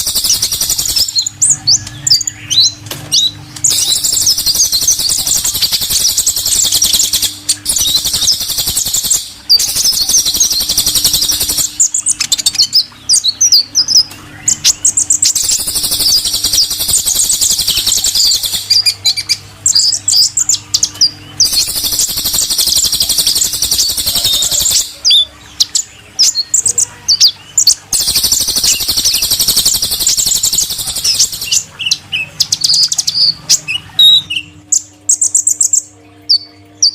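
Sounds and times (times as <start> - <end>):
faint steady hum: 0.0 - 36.9
sunbirds twittering: 0.0 - 36.9.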